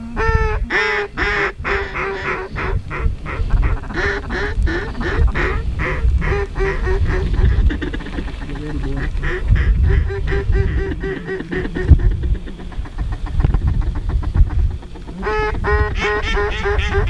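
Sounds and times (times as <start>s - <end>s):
waterfowl flock calling: 0.0s - 17.0s.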